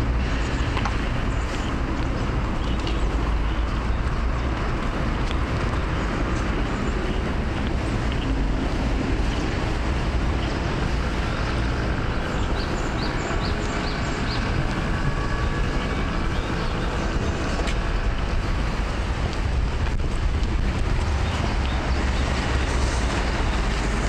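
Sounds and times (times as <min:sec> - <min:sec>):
road traffic rumble: 0:00.0 - 0:24.0
wind on microphone: 0:00.0 - 0:24.0.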